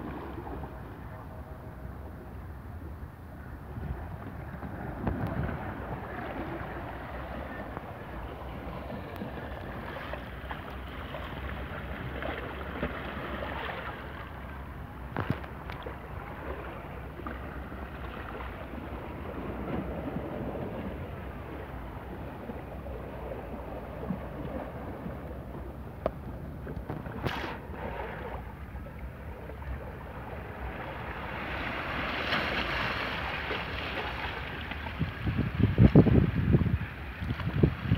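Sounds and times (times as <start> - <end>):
waves lapping against rocks: 0.0 - 37.9
wind rumbling on microphone: 0.0 - 37.9.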